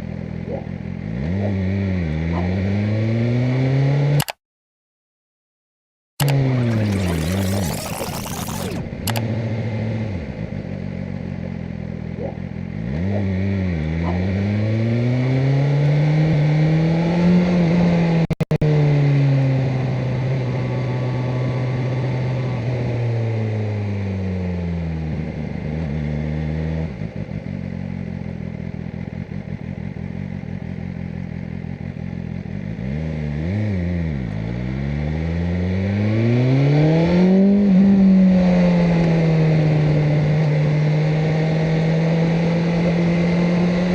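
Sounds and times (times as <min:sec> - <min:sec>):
motorcycle engine revving: 0:00.0 - 0:04.4, 0:06.2 - 0:43.9.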